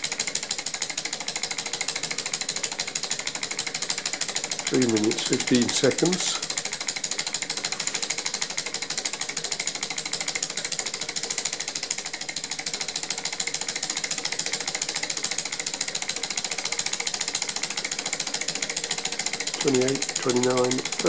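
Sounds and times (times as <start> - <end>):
small engine clicking rapidly: 0.0 - 21.0.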